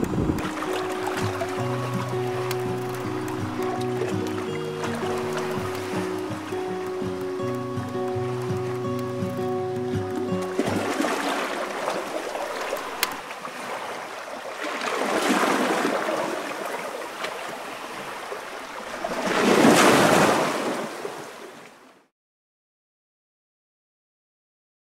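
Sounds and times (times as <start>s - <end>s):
water waves sloshing: 0.0s - 22.0s.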